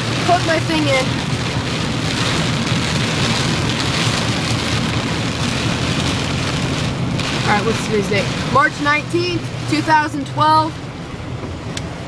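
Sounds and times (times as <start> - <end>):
engine and tyres on wet road: 0.0 - 12.0
rain pelting a car: 0.0 - 12.0.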